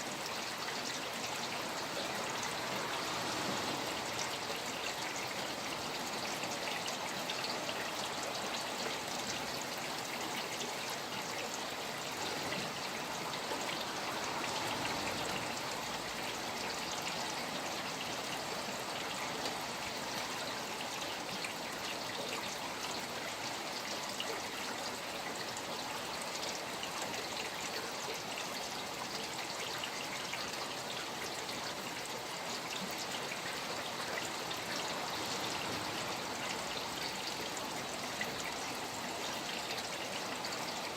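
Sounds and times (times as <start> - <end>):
steady rain falling: 0.0 - 40.9
trickling running water: 0.0 - 40.9.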